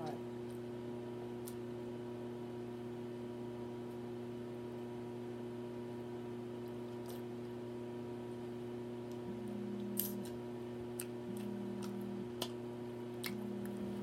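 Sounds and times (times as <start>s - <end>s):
low hum: 2.0s - 14.0s.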